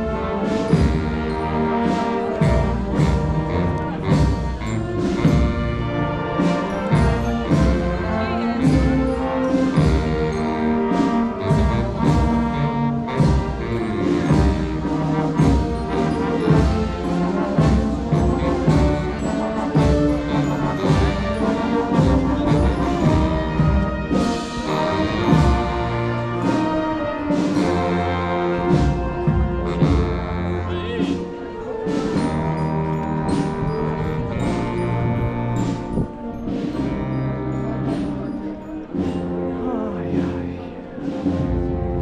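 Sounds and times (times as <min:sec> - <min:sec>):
brass band playing march: 0:00.0 - 0:42.0.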